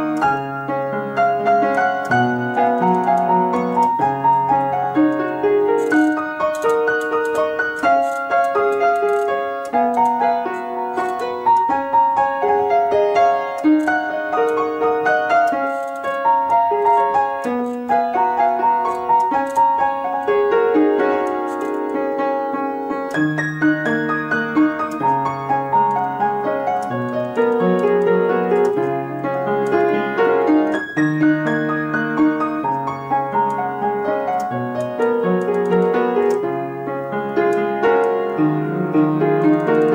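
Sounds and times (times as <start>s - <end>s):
piano bass line: 0.0s - 39.9s
solo piano playing: 0.0s - 39.9s.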